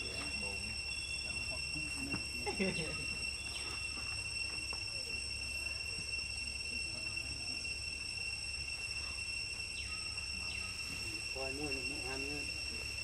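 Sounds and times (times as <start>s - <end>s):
constant high-pitched whine: 0.0s - 13.0s.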